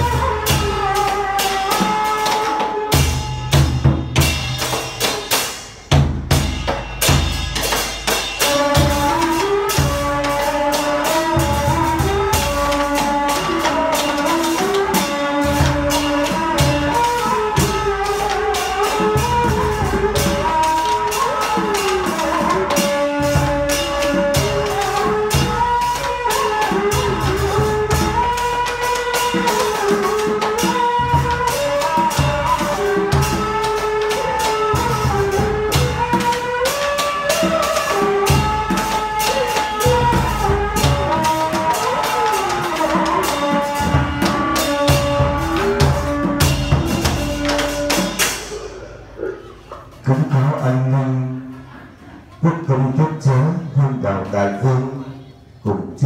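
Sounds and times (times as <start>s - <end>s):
quick steady percussion: 0.0s - 48.8s.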